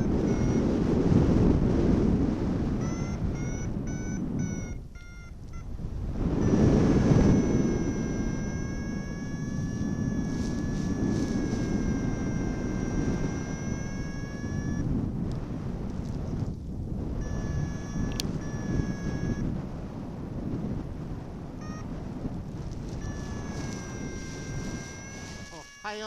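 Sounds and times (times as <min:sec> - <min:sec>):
variometer beeping: 0:00.0 - 0:19.6, 0:21.6 - 0:26.0
wind buffeting microphone: 0:00.0 - 0:26.0.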